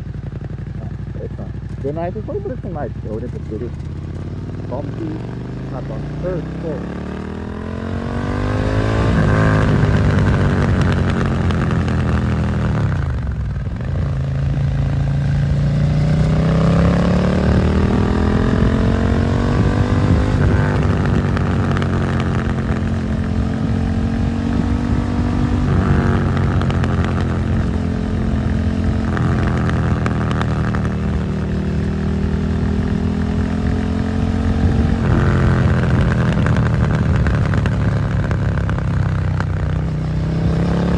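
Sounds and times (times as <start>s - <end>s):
motorcycle engine revving and shifting: 0.0s - 40.9s.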